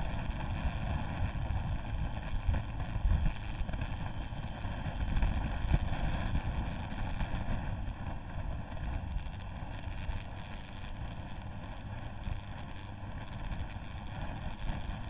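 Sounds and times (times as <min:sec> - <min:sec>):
motorcycle running: 0:00.0 - 0:15.0
wind buffeting microphone: 0:00.0 - 0:15.0.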